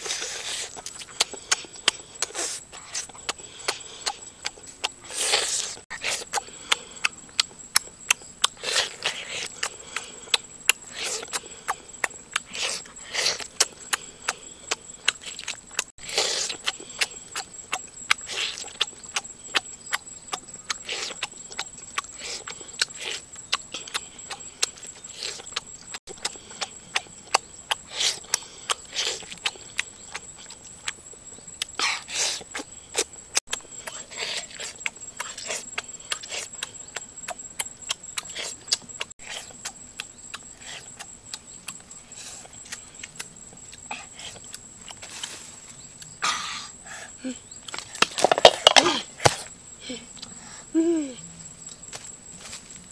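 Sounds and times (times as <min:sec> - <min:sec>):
chewing and lip-smacking: 0:00.0 - 0:45.3.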